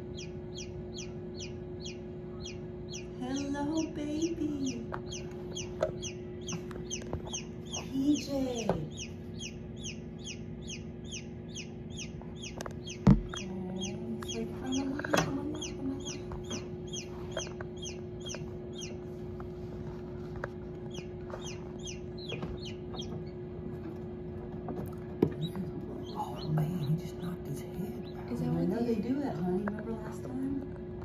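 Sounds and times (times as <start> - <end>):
chicks peeping: 0.0 - 31.0
incubator hum: 0.0 - 31.0.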